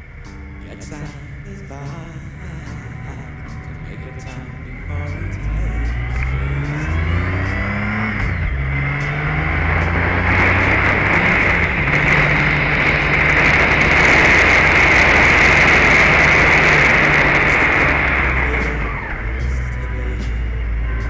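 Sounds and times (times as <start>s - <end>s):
motorcycle engine humming: 0.0s - 21.0s
wind and road rush: 2.2s - 21.0s.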